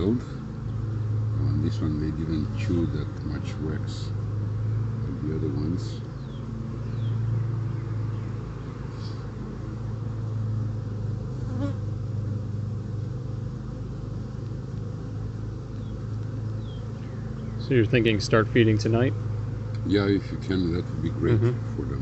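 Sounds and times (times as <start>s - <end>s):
honeybees buzzing: 0.0s - 22.0s.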